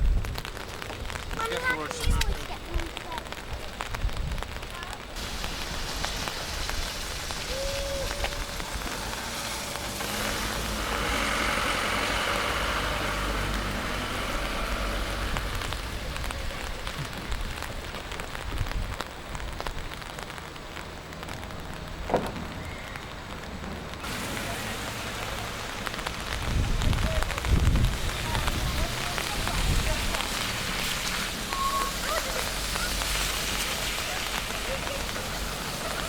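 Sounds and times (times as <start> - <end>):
rain drops ticking: 0.0 - 36.0.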